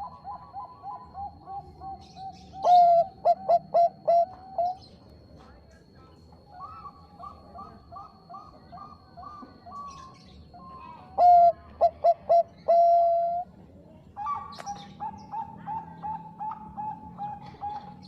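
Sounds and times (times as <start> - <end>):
doves cooing: 0.0 - 4.9, 6.4 - 18.0.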